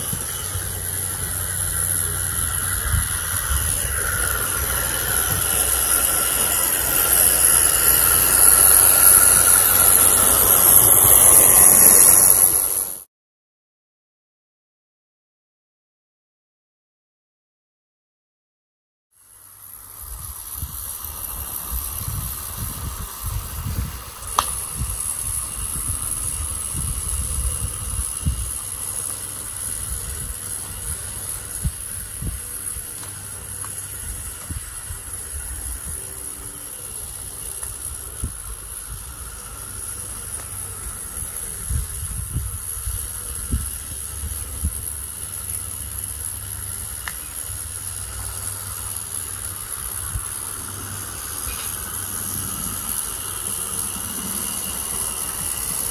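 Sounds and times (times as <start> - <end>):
steam hissing: 0.0 - 13.1, 19.2 - 55.9.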